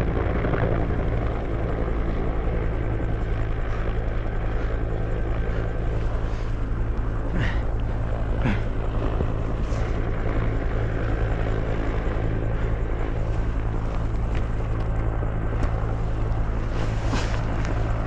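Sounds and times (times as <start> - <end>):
helicopter rotor and engine drone: 0.0 - 18.0.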